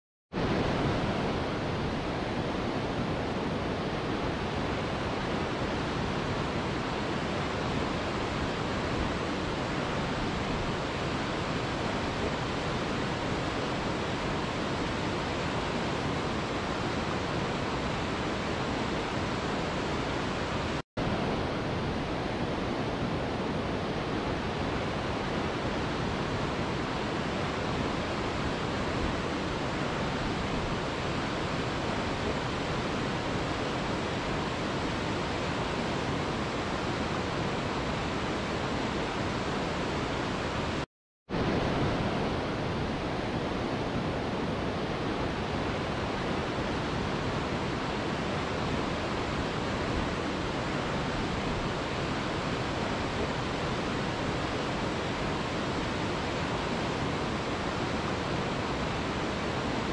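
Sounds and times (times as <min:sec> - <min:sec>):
waterfall rushing: 0:00.4 - 0:40.8, 0:41.4 - 0:59.9.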